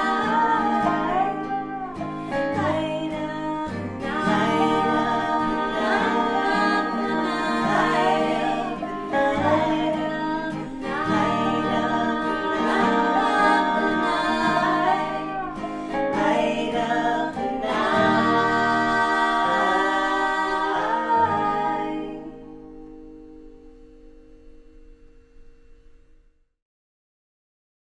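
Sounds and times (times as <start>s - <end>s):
trio singing in harmony: 0.0s - 2.0s, 2.6s - 22.9s
acoustic guitar and dobro: 0.0s - 25.3s.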